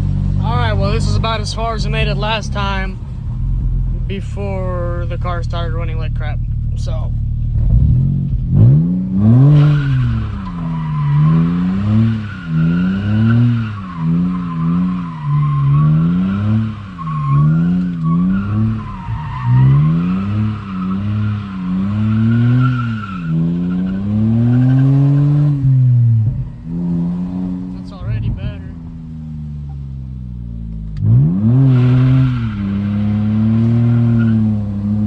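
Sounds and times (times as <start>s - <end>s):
car engine revving: 0.0s - 35.0s
tires squealing: 0.0s - 35.0s.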